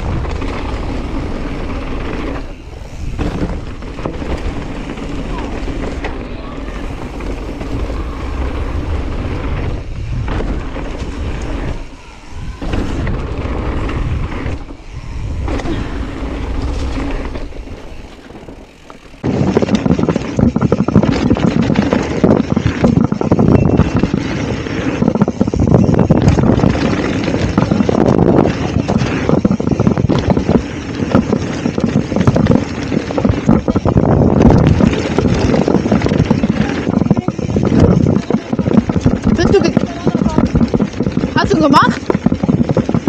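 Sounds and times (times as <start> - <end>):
bike rattling over rough ground: 0.0 - 43.0
wind rushing over microphone: 0.0 - 43.0.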